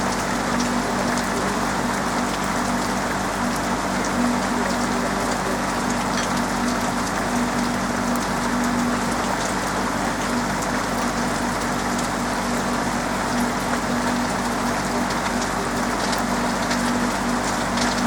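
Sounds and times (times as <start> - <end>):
rain falling on a roof: 0.0 - 18.0.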